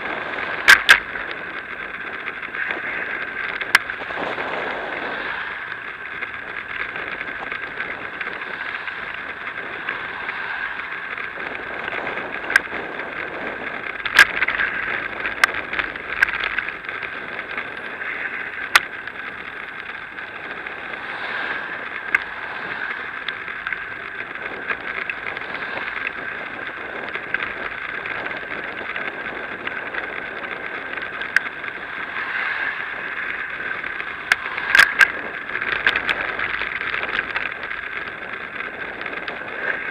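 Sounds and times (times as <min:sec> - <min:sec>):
bicycle clicks and rattles: 0:00.0 - 0:39.9
wind and road noise: 0:00.0 - 0:39.9.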